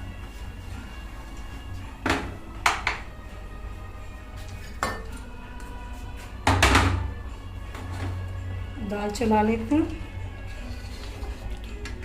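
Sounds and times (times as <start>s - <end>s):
background music with steady tones: 0.0s - 12.0s.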